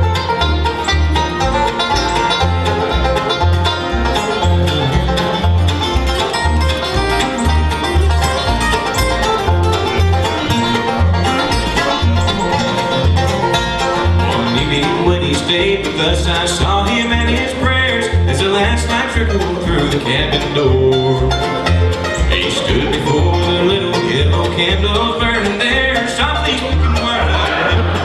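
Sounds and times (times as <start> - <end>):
acoustic guitar picking: 0.0 - 28.0
banjo picking: 0.0 - 28.0
mandolin picking: 0.0 - 28.0
upright bass plucking: 0.0 - 28.0.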